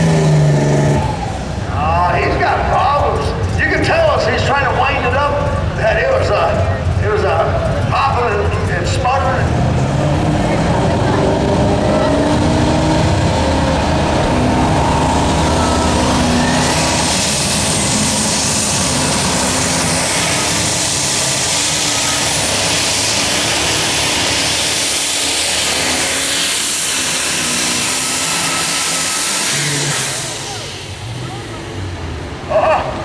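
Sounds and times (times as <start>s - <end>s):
tractor engine at full throttle: 0.0s - 33.0s.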